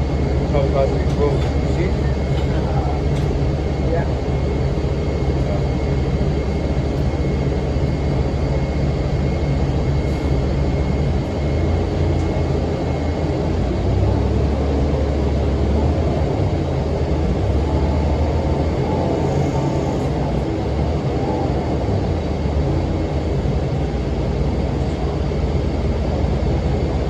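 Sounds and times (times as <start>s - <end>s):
bus diesel engine running: 0.0s - 27.0s
engine cooling fan whine: 0.0s - 27.0s.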